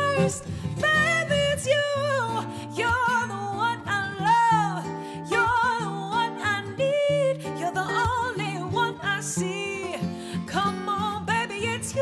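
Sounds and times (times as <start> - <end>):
acoustic guitar: 0.0 - 12.0
woman singing: 0.0 - 12.0.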